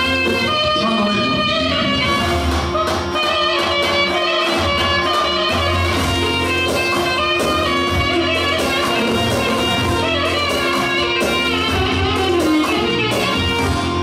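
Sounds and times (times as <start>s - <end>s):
guitar music with bass: 0.0s - 14.0s.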